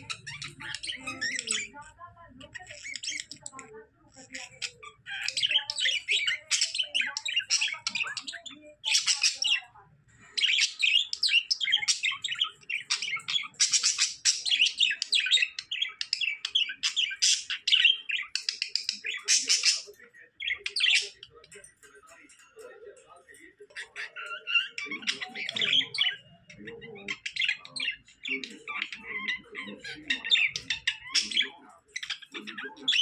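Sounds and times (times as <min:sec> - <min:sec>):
budgerigars chattering: 0:00.0 - 0:33.0.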